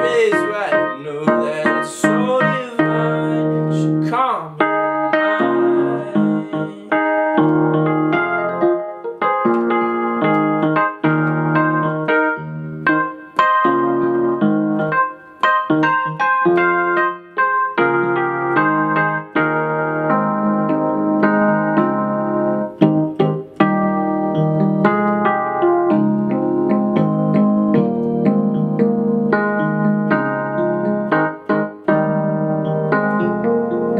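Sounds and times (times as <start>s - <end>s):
piano block chords: 0.0s - 33.9s.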